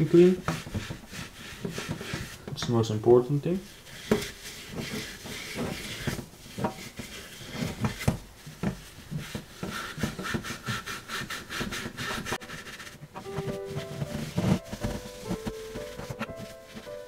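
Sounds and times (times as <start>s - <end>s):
steel wool scrubbing metal: 0.0s - 2.9s, 3.5s - 17.0s.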